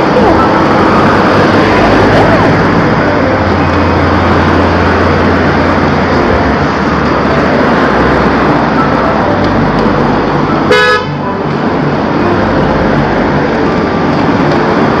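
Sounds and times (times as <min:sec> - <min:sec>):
car engine hum: 0:00.0 - 0:15.0
car traffic passing: 0:00.0 - 0:15.0
rushing noise from cycling: 0:00.0 - 0:15.0.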